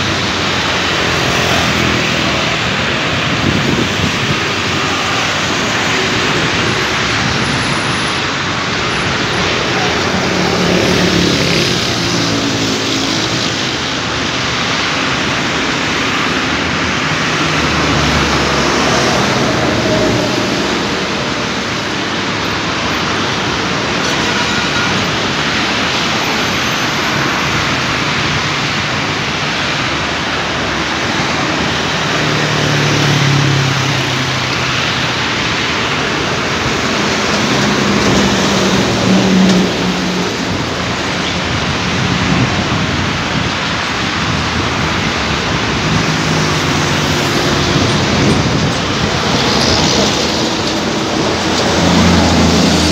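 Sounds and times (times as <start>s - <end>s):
road traffic: 0.0s - 52.9s
vehicles passing: 0.0s - 52.9s.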